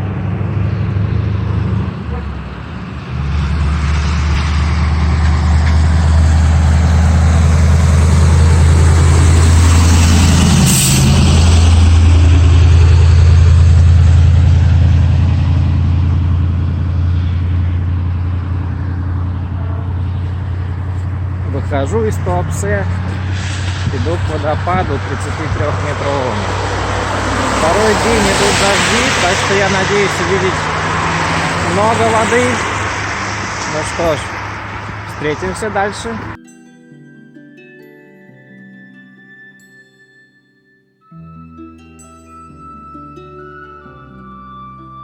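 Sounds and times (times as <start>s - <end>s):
heavy vehicle engine humming: 0.0s - 36.4s
vehicle passing: 0.0s - 36.4s.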